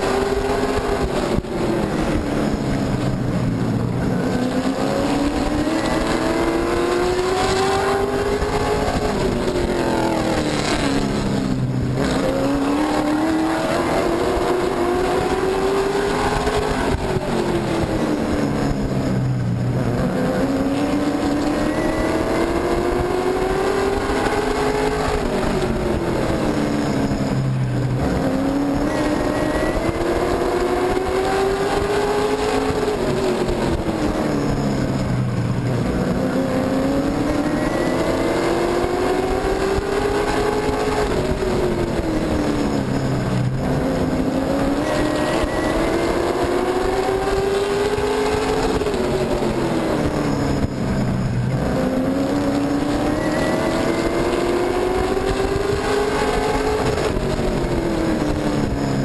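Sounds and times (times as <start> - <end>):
racing truck engine revving: 0.0 - 59.0.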